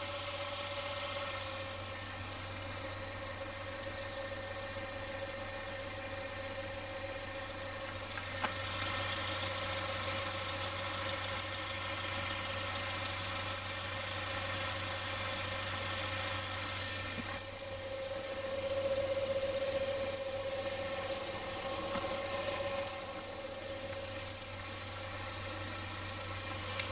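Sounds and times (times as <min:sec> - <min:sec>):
car engine idling: 0:00.0 - 0:26.9
fast high-pitched ticking: 0:00.0 - 0:26.9.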